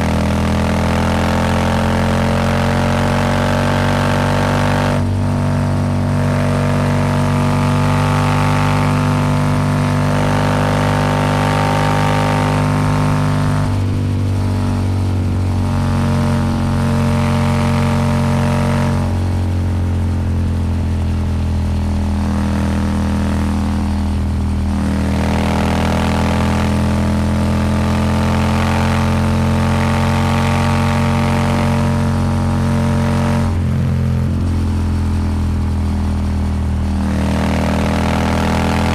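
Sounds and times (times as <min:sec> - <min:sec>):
motorcycle engine under throttle: 0:00.0 - 0:38.9.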